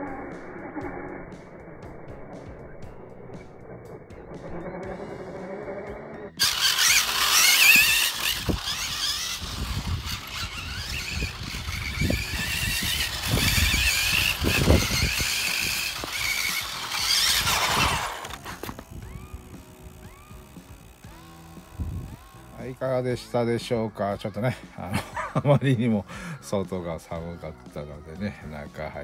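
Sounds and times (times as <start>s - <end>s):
electric motor whining: 0.0s - 23.3s.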